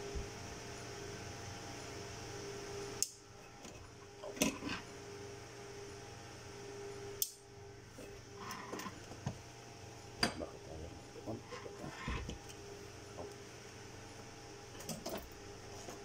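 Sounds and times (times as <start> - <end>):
fan-like electrical hum: 0.0 - 16.0.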